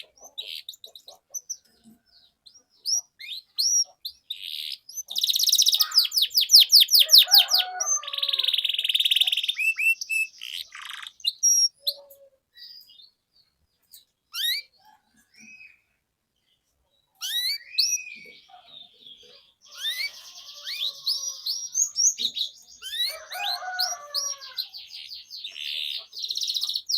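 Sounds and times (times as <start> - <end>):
canary singing: 0.0 - 16.0, 17.0 - 26.9.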